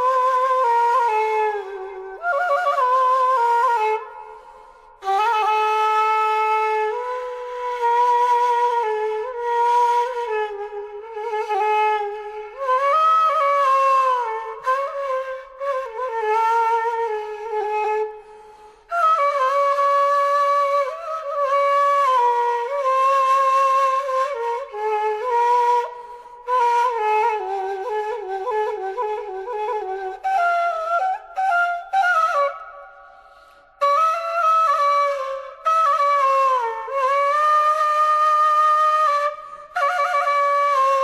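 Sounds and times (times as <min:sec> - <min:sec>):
solo flute slow melody: 0:00.0 - 0:41.0.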